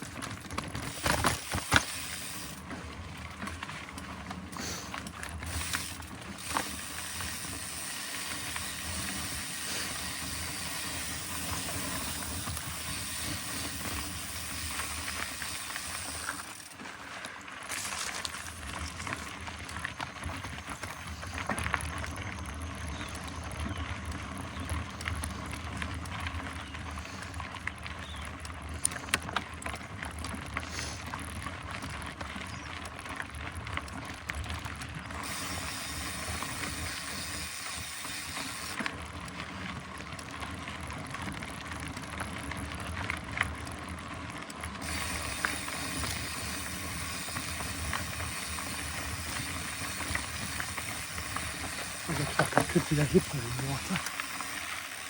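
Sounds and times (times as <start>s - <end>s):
bike rattling: 0.0s - 55.0s
tyre and wind noise: 0.0s - 55.0s.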